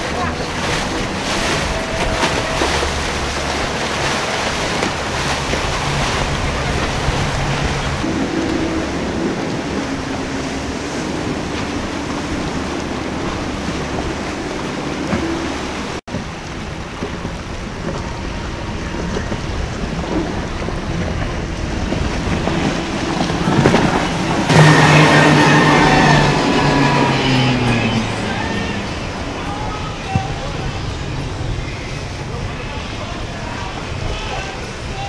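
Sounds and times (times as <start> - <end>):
boat outboard engines: 0.0 - 35.0
heavy wind on microphone: 0.0 - 35.0
rushing wake and surf: 0.0 - 35.0.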